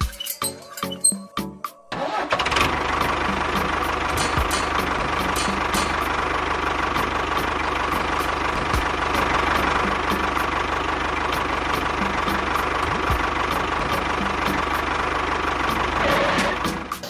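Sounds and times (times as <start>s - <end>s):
engine idling: 1.9s - 17.0s.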